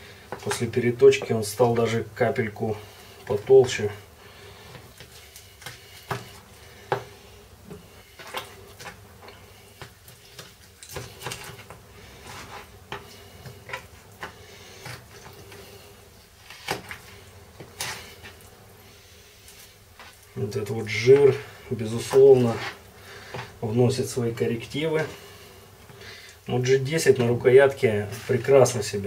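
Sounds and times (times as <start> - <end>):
meat being handled: 0.2 - 25.2.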